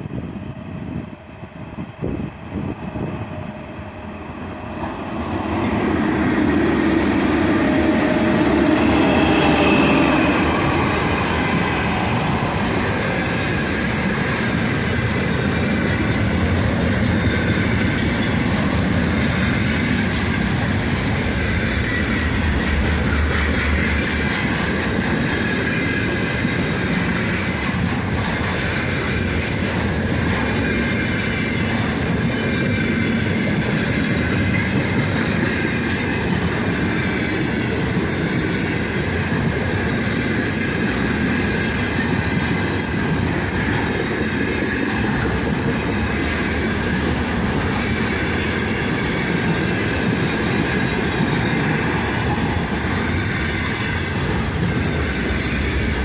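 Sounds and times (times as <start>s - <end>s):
freight train passing: 0.0s - 56.0s
wheels clattering on rails: 4.7s - 56.0s.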